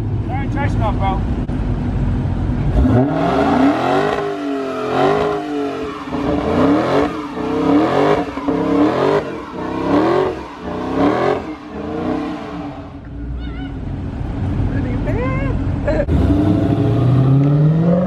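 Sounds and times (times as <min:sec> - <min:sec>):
car engine revving: 0:01.3 - 0:18.0.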